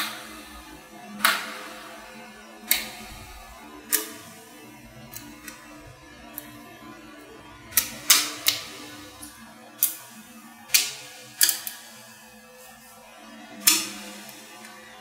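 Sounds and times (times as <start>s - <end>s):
magnetic balls clicking: 0.0s - 6.8s, 7.7s - 12.2s, 13.5s - 15.0s.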